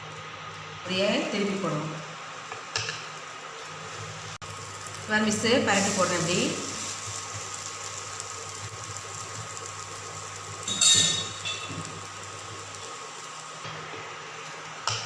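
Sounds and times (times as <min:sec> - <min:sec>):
omelette sizzling in a pan: 0:00.0 - 0:15.0.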